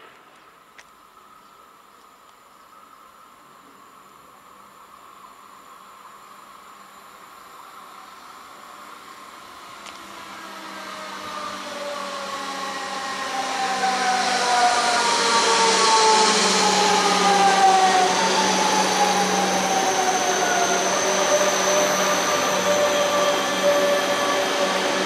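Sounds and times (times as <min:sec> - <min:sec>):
train traction drive whine: 0:04.0 - 0:25.0.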